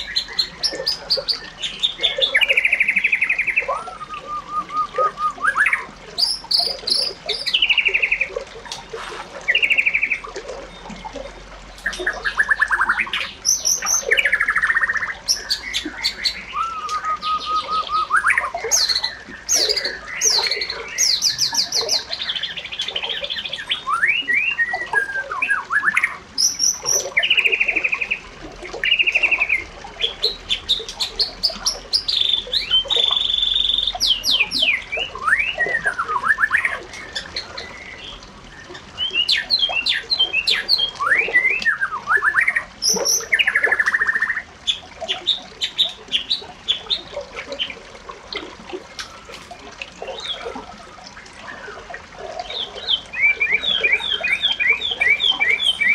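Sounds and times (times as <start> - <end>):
birds chirping and singing: 0.0 - 10.9, 11.8 - 47.8, 48.9 - 55.9.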